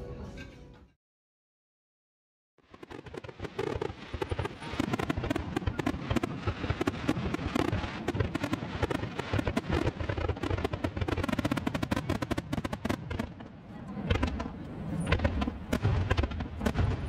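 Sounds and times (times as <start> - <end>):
fireworks crackling: 2.6 - 17.0.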